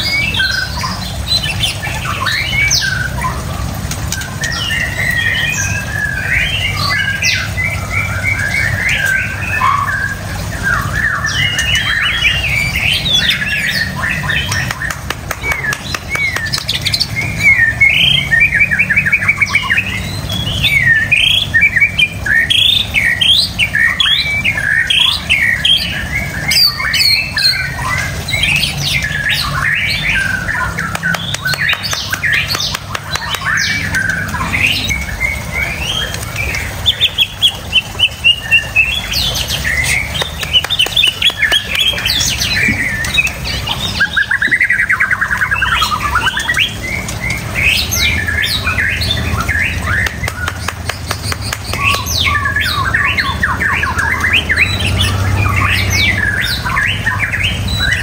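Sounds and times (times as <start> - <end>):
bird singing whistles and trills: 4.1 - 58.0.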